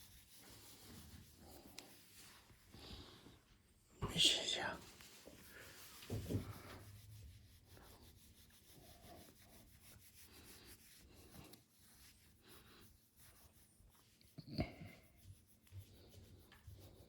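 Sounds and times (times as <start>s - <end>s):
faint rubbing and scuffing: 0.0s - 14.3s.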